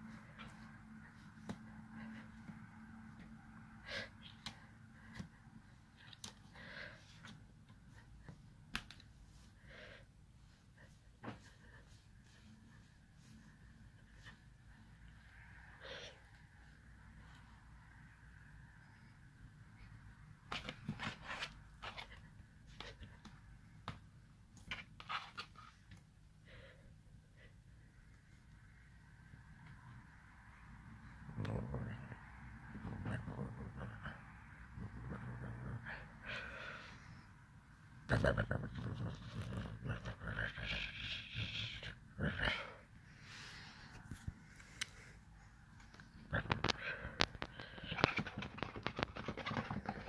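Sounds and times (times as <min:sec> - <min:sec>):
soft breaths: 0:00.0 - 0:20.4, 0:25.5 - 0:38.0, 0:39.4 - 0:48.3
faint low hum: 0:00.0 - 0:50.0.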